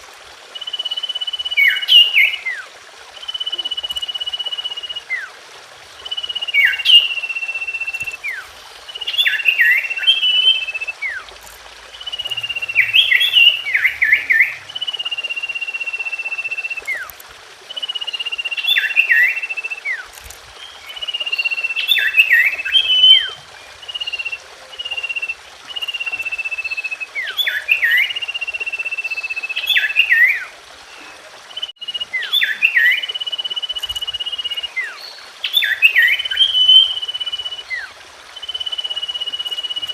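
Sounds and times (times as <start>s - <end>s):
bird singing whistled phrase: 0.6s - 5.3s, 6.0s - 11.2s, 12.0s - 17.1s, 17.7s - 39.9s.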